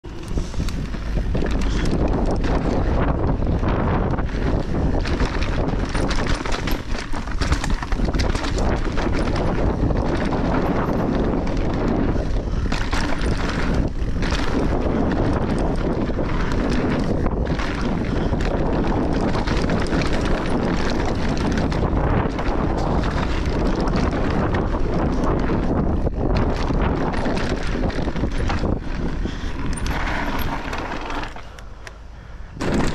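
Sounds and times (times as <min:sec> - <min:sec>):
wind on microphone: 0:00.0 - 0:31.6, 0:32.2 - 0:32.9
bike rattles and knocks: 0:00.0 - 0:32.0, 0:32.6 - 0:32.9
bike tyres rolling on dirt: 0:00.0 - 0:32.9.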